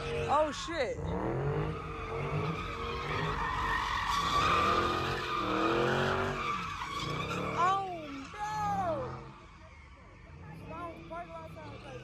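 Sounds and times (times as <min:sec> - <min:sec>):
car tires squealing: 0:00.0 - 0:12.0
engine revving high: 0:00.0 - 0:12.0.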